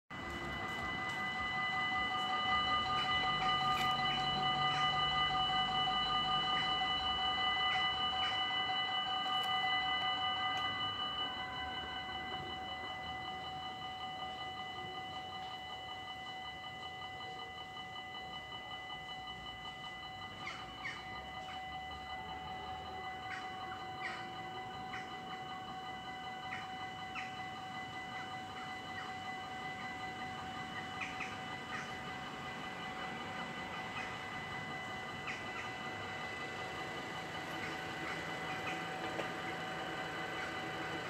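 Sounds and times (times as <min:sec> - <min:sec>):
level crossing bells ringing: 0:00.1 - 0:41.0.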